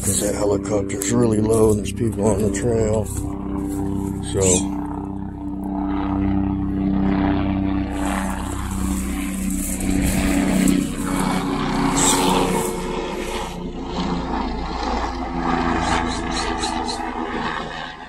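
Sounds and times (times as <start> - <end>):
low-flying helicopter: 0.0 - 18.0.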